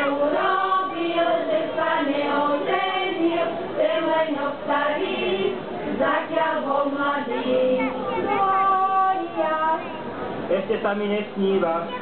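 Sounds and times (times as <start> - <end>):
women's choir singing folk song: 0.0 - 9.8.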